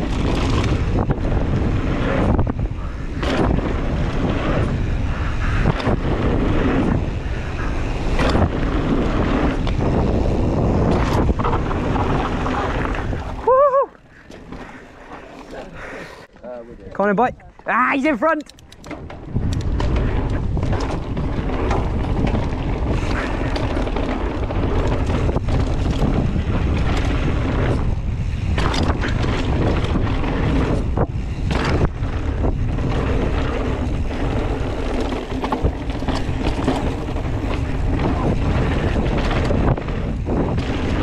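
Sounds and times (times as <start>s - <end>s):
bike knocking and rattling: 0.0s - 16.6s, 18.0s - 41.0s
bike tyre noise: 0.0s - 41.0s
wind buffeting microphone: 0.0s - 41.0s.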